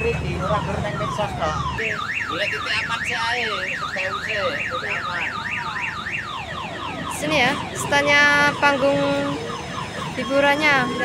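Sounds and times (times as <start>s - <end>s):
electronic alarm tone warbling: 0.0s - 11.0s.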